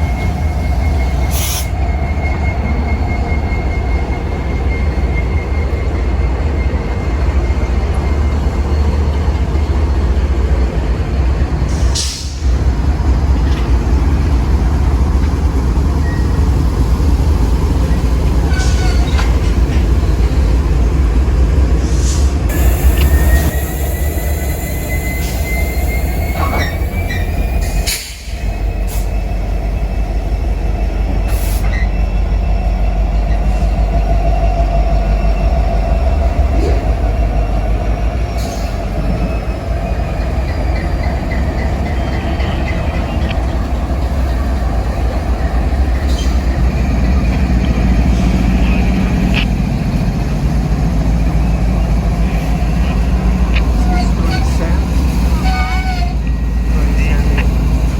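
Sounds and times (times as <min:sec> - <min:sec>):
diesel locomotive rumble: 0:00.0 - 0:57.9
train cars clanking: 0:00.0 - 0:57.9
train wheels squealing on rail: 0:00.0 - 0:57.9.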